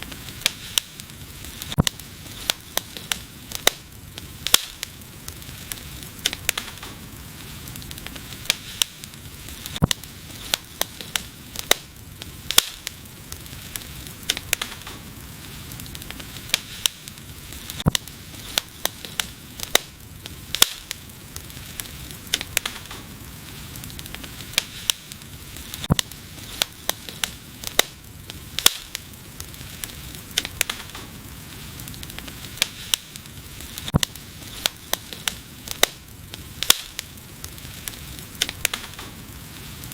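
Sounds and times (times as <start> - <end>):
flames hissing: 0.0 - 39.9
wood fire popping and crackling: 0.0 - 39.9.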